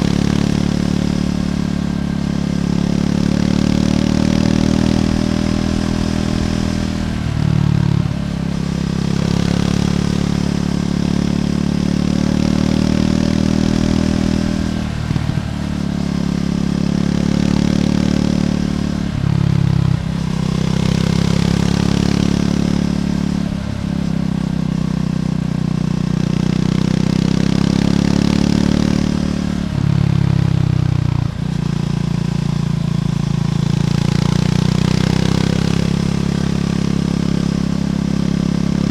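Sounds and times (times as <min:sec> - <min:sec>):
motorcycle engine with gear changes: 0:00.0 - 0:38.9.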